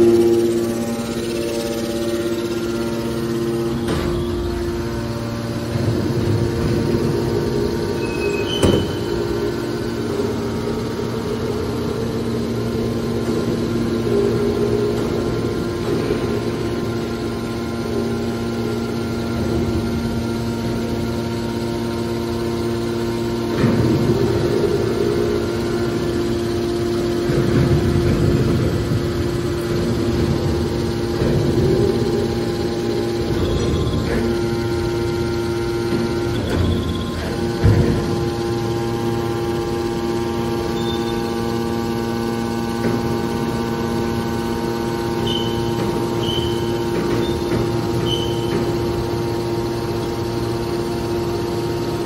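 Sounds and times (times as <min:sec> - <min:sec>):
motor and hydraulic pump humming: 0:00.0 - 0:52.0.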